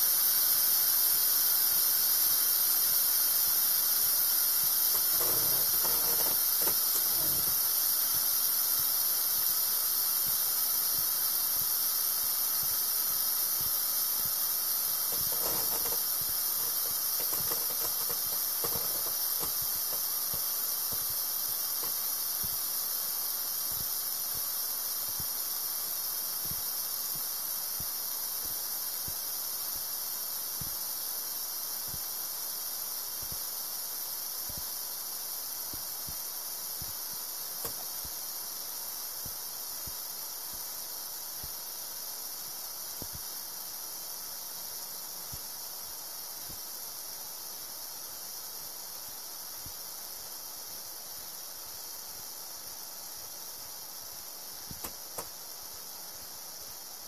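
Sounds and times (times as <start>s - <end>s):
air hissing from inflatable boat: 0.0s - 57.0s.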